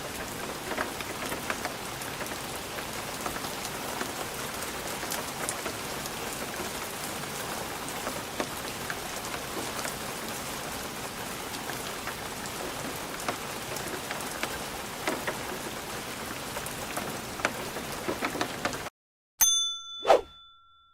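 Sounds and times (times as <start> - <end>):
light rain hissing: 0.0 - 18.9
raindrops tapping on glass: 0.1 - 18.9.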